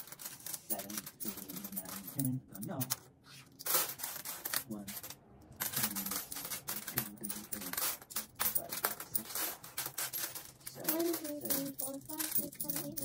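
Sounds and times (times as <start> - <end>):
coins clinking: 0.0 - 13.0.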